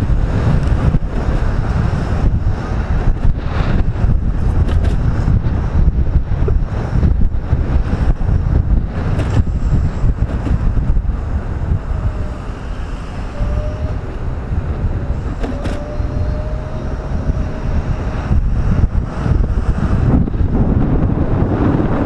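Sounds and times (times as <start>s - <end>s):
motorcycle engine rumble: 0.0s - 22.0s
wind buffeting helmet microphone: 0.0s - 22.0s.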